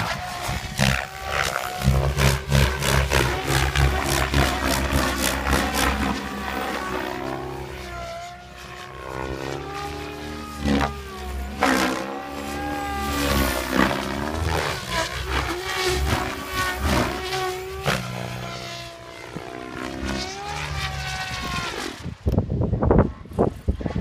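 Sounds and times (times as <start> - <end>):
rc helicopter rotors and motor drone: 0.0 - 24.0.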